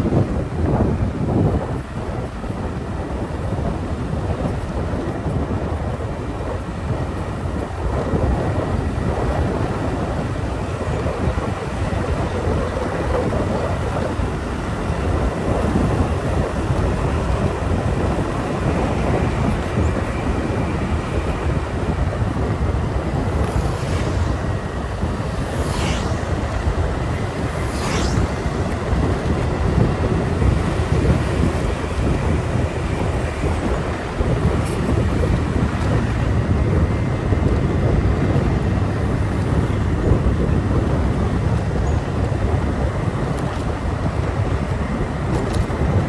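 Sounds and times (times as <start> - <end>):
wind rushing over microphone: 0.0 - 46.0.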